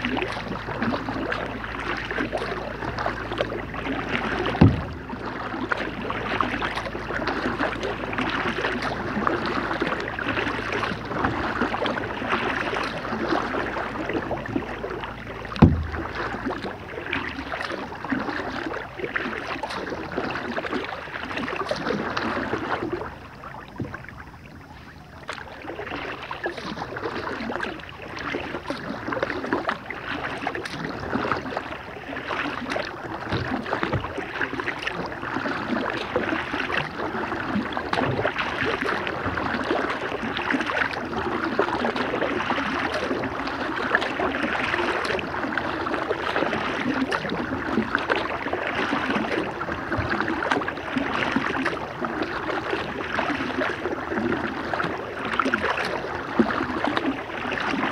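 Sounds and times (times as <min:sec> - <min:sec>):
paddle drips: 0:00.0 - 0:57.9
water lapping against kayak hull: 0:00.0 - 0:57.9.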